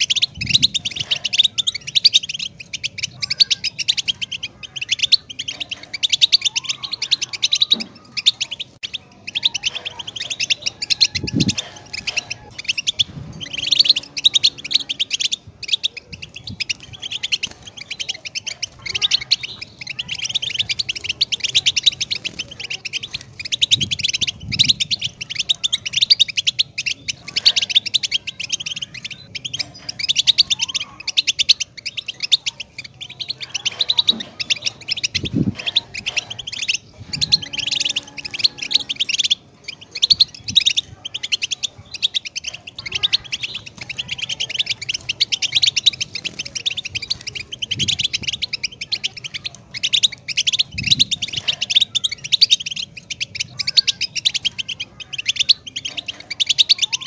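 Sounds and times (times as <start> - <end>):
finch singing high twittering song: 0.0 - 57.0.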